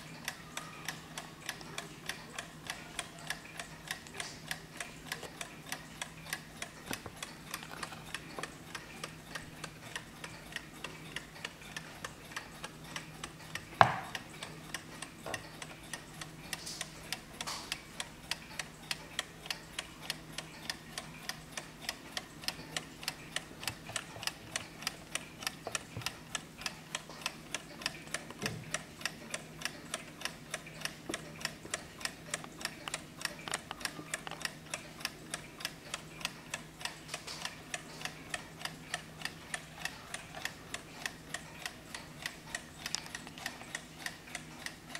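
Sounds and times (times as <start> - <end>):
clock ticking: 0.0 - 44.9.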